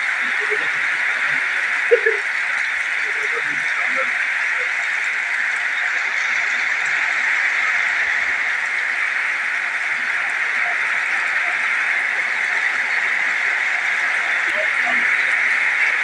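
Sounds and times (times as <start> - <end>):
heavy rain on paved road: 0.0 - 16.0.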